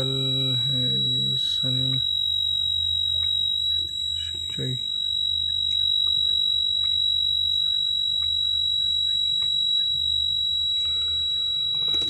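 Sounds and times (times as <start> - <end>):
high-pitched warning buzzer: 0.0 - 12.0
low hum: 0.0 - 12.0.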